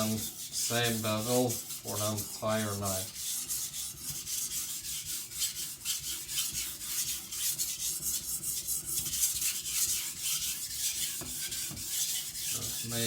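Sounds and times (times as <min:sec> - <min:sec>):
knife rubbing on whetstone: 0:00.0 - 0:13.0.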